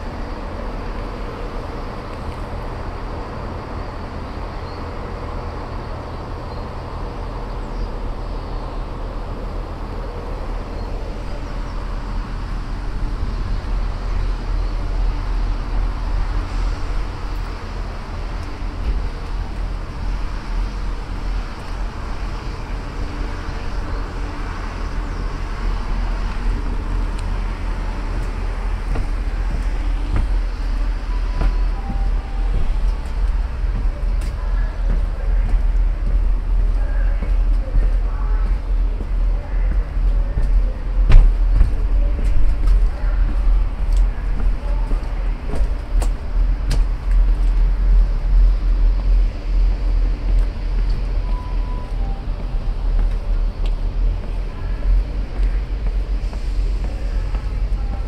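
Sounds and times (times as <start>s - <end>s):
street traffic rumble: 0.0s - 58.0s.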